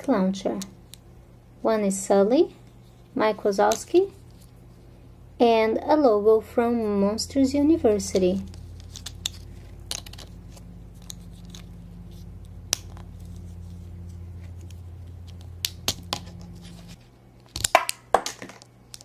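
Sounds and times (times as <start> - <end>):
low hum: 0.0 - 17.5.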